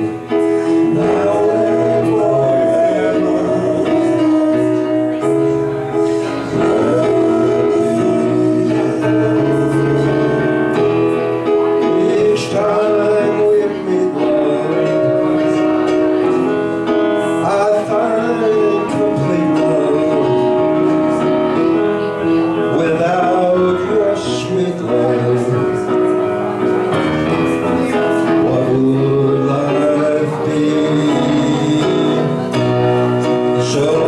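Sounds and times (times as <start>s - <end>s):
man singing into microphone: 0.0s - 26.4s, 27.4s - 34.0s
electric keyboard chords: 0.0s - 34.0s.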